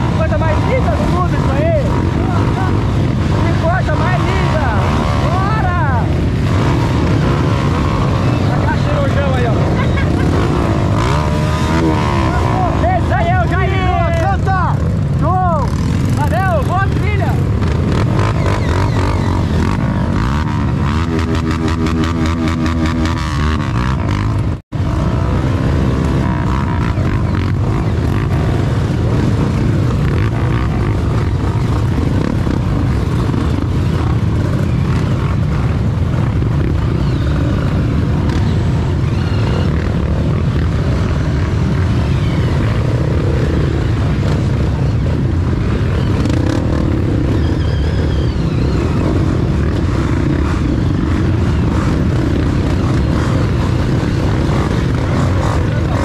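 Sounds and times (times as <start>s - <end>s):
motorcycle engines rumbling: 0.0s - 56.0s.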